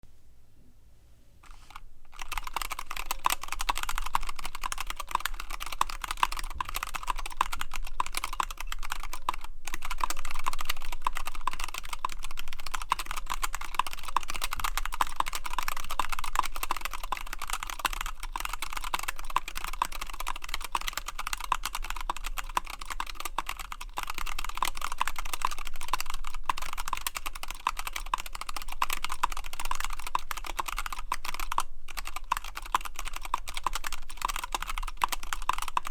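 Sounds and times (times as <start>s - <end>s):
fast mechanical keyboard typing: 1.4s - 35.9s.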